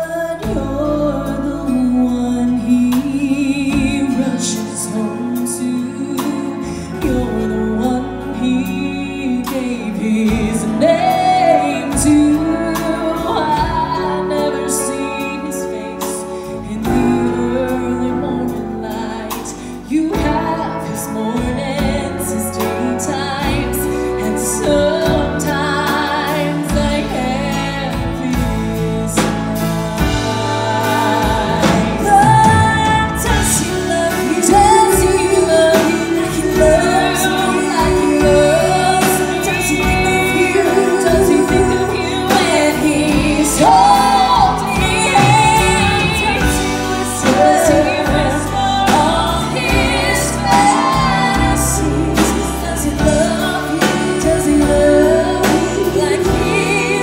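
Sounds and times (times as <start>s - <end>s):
live country band: 0.0s - 57.0s
woman singing: 0.0s - 57.0s.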